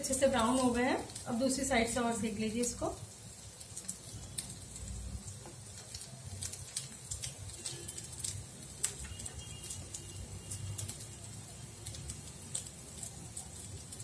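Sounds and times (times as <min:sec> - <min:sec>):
food sizzling in oil: 0:00.0 - 0:14.0
small crackles and pops: 0:00.0 - 0:14.0.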